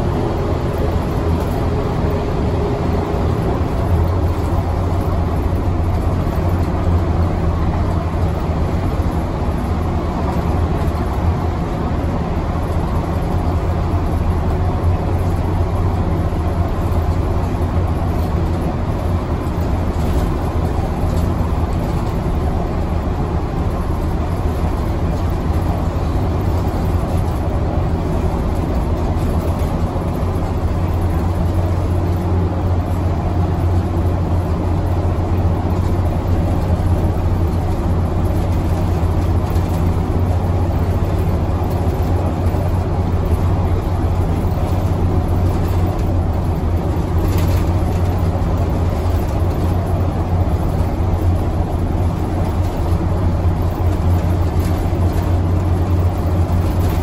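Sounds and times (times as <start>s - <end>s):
bus engine droning: 0.0s - 57.0s.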